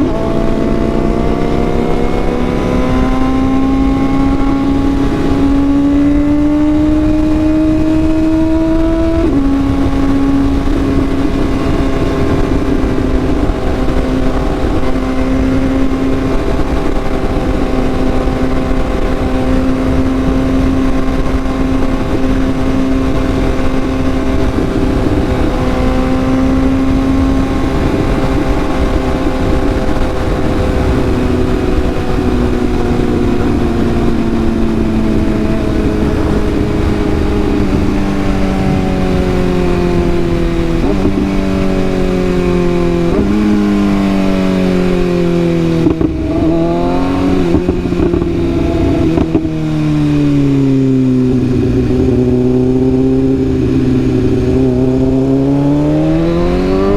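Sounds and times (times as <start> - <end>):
motorcycle engine: 0.0 - 56.9
rushing wind: 0.0 - 56.9.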